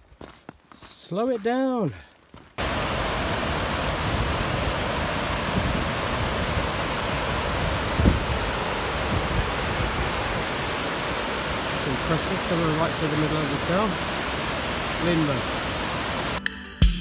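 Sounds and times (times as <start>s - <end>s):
river water rushing over rocks: 2.6s - 16.4s.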